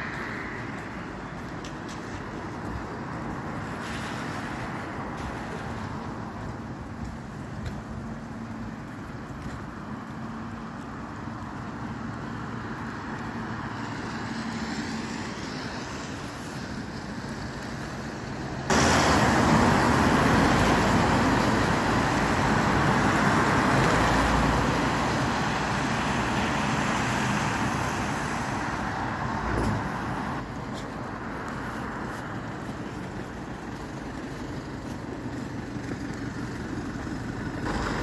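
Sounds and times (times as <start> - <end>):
car engines running: 0.0 - 38.0.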